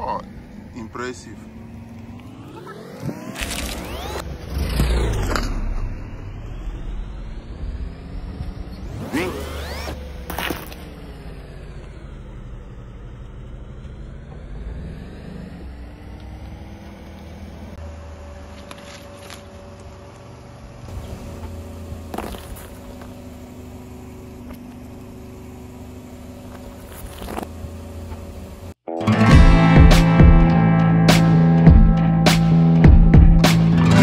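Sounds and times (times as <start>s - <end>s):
car engine low rumble: 0.0s - 28.8s.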